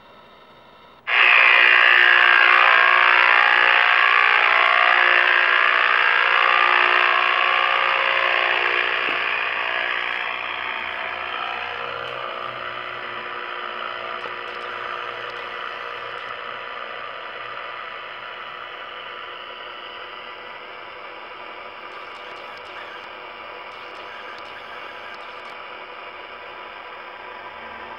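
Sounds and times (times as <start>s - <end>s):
cb radio buzzing: 0.0s - 27.9s.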